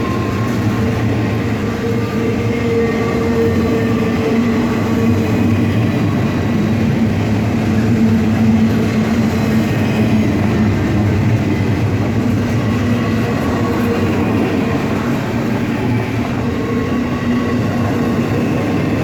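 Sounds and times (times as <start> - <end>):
train wheels on rail: 0.0 - 19.0.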